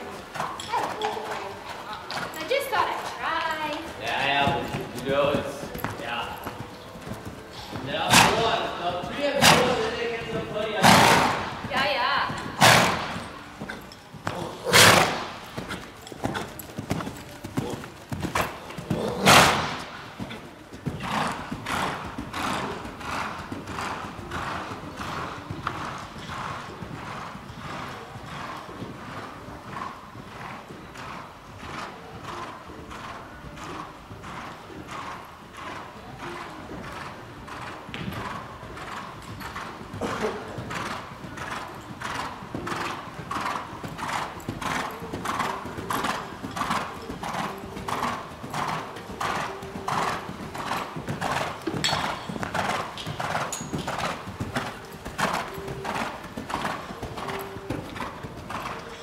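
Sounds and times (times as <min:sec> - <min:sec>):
horse hoofbeats on sand: 0:00.0 - 0:59.0
horse breathing: 0:00.2 - 0:27.2, 0:38.2 - 0:59.0.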